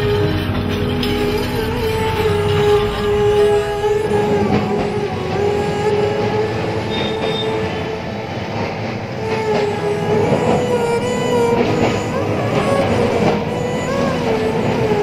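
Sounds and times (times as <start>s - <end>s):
electric tram rumbling on rails: 0.0s - 15.0s.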